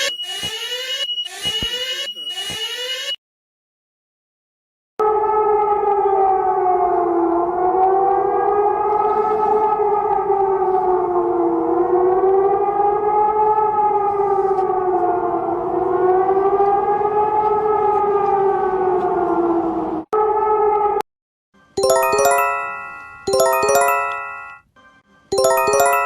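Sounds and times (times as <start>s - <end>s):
two-tone alarm siren wavering: 0.0s - 3.2s, 5.0s - 21.0s, 21.8s - 24.5s, 25.4s - 26.0s.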